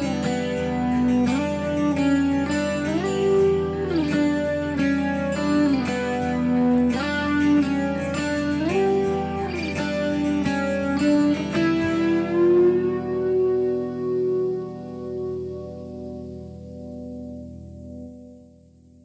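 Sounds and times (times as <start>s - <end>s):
guitar instrumental music: 0.0s - 19.0s.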